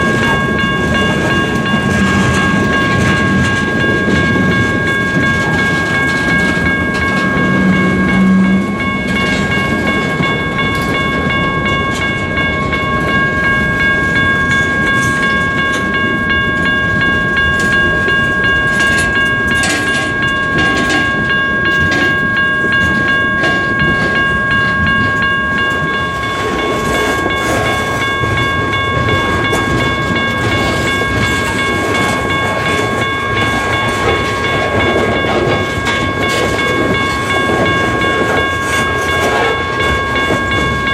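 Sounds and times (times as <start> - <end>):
high-pitched ringing tones: 0.0 - 40.9
train wheels rumbling on rails: 0.0 - 40.9
wheels clicking over rail joints: 0.0 - 40.9.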